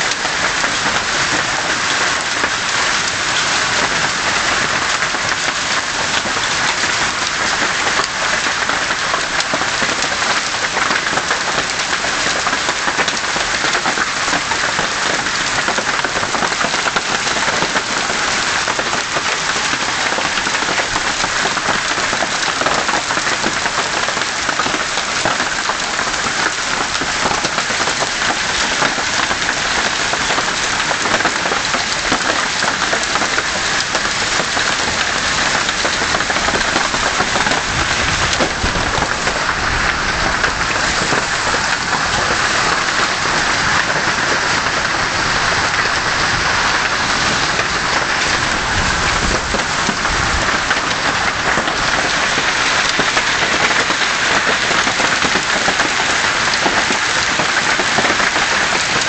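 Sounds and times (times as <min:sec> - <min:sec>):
hail pelting a roof: 0:00.0 - 0:59.0.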